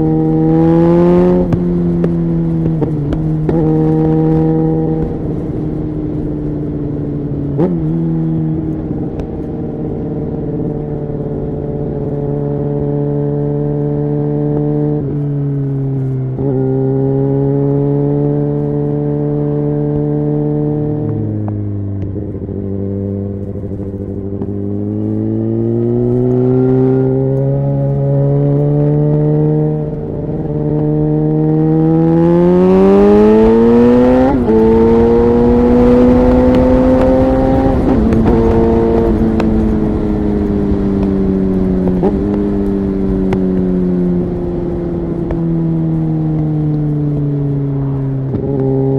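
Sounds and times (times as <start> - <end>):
motorcycle engine accelerating: 0.0 - 48.9
rushing wind: 0.0 - 48.9.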